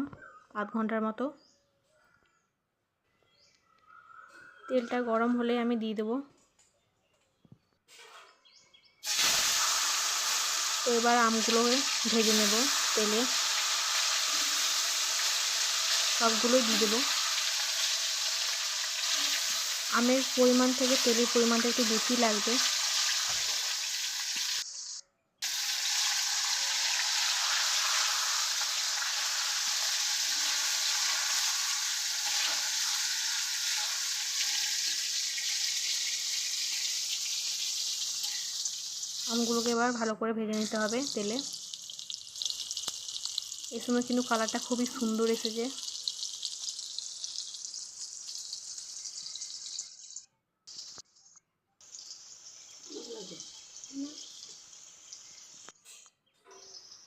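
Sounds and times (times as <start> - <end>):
mango pieces sizzling in oil: 9.0 - 51.0, 51.8 - 55.8.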